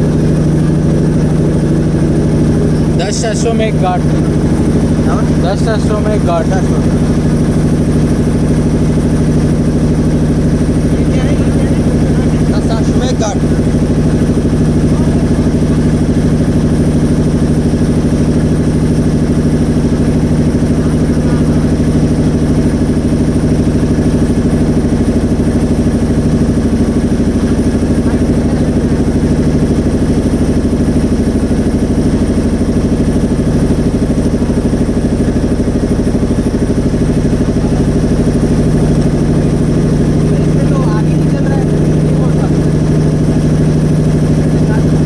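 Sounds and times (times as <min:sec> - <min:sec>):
motorboat engine running: 0:00.0 - 0:45.0.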